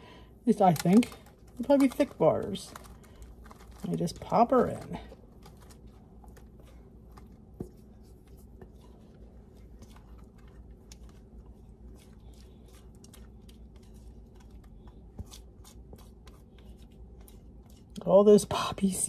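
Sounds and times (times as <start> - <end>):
sticky batter squelches: 0.1 - 19.0.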